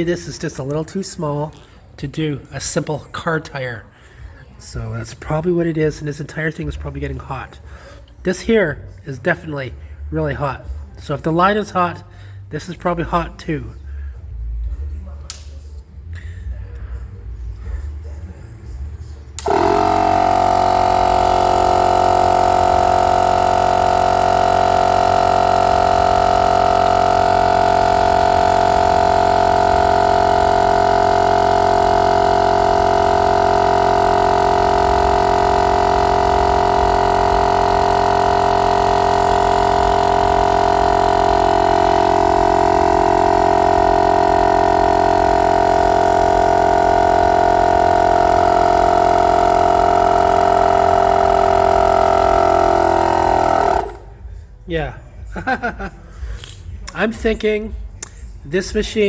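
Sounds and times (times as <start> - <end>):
air compressor running with whine: 0.0 - 59.0.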